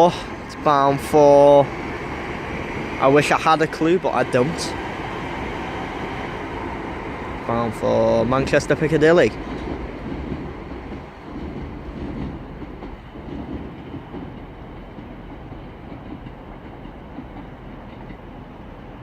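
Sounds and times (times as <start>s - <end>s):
electric train running on rails: 0.0s - 19.0s.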